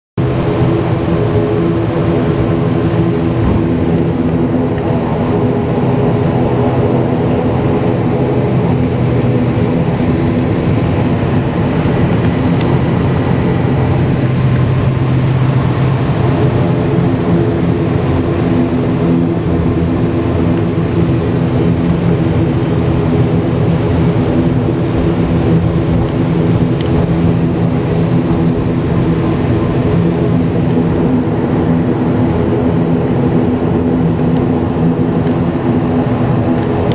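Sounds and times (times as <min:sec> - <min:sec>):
turboprop engines droning: 0:00.2 - 0:36.9.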